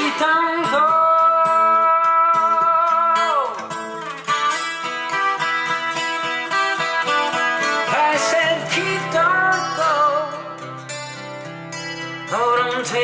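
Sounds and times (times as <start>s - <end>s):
guitar chords: 0.0s - 13.0s
song over loudspeakers: 0.0s - 13.0s.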